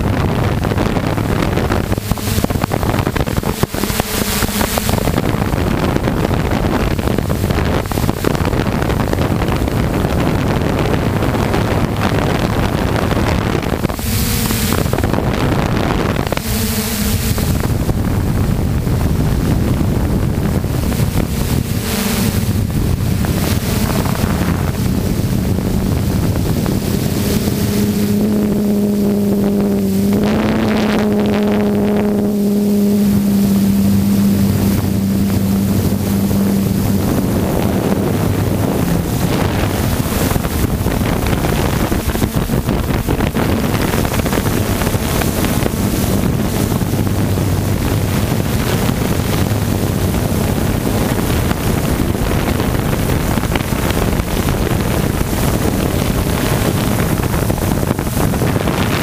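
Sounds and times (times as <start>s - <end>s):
electric motors and propellers droning: 0.0s - 59.0s
pitched hum: 0.0s - 59.0s
wind rushing over microphone: 0.0s - 59.0s.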